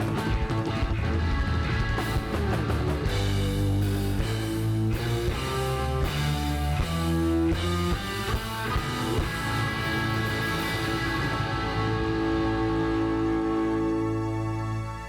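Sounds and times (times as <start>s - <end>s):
bass guitar: 0.0s - 15.0s
lead guitar: 0.0s - 15.0s
rock band playing: 0.0s - 15.0s.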